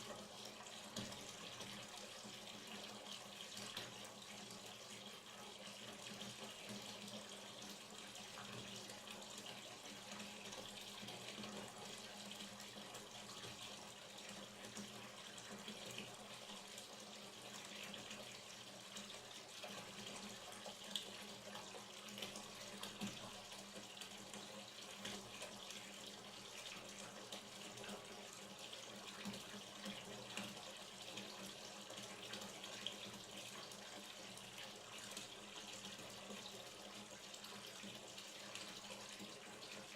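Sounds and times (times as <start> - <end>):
water pouring into bathtub: 0.0 - 39.9.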